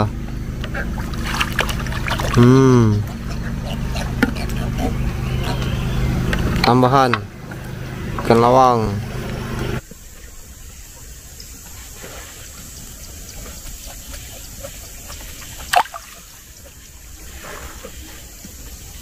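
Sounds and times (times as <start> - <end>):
water lapping against wooden boat: 0.0 - 19.0.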